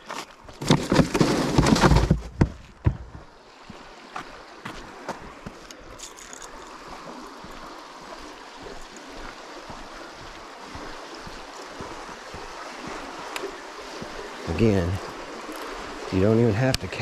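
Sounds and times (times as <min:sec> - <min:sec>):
river current rushing: 0:03.2 - 0:17.0.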